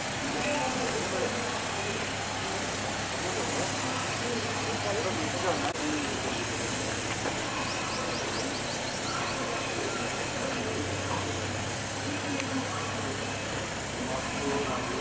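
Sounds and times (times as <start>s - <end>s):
faint voices: 0.0s - 15.0s
spray hissing from nozzles: 0.0s - 15.0s
sprayer pump motor hum: 0.0s - 15.0s.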